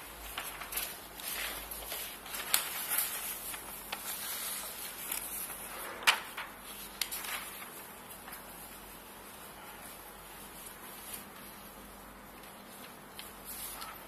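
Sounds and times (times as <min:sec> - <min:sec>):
newspaper pages rustling: 0:00.0 - 0:14.0.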